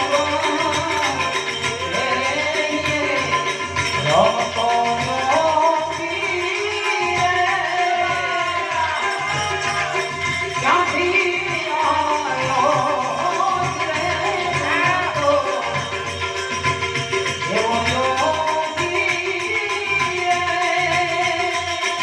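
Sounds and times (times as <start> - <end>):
hand percussion rhythm: 0.0 - 22.0
person singing devotional melody: 0.0 - 22.0.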